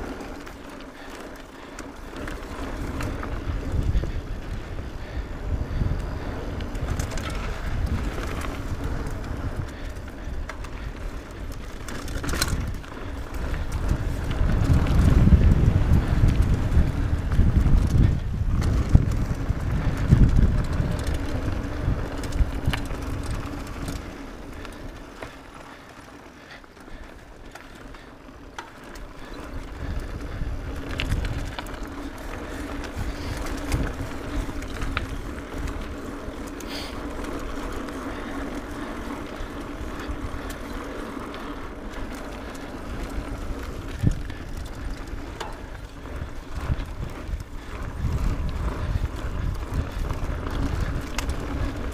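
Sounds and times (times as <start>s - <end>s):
bike rattling over bumps: 0.0s - 51.9s
tyres rolling on dirt: 0.0s - 51.9s
wind rumbling on microphone: 0.0s - 51.9s.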